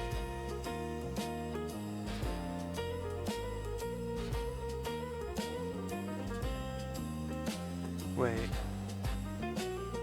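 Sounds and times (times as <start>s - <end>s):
guitar-led instrumental music: 0.0s - 10.0s.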